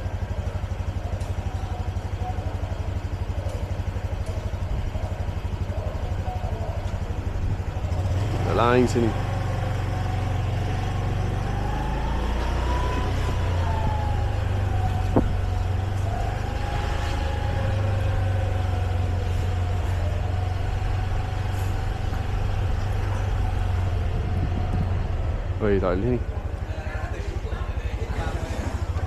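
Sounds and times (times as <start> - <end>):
motorbike engine running: 0.0 - 29.0
road and wind noise: 0.0 - 29.0.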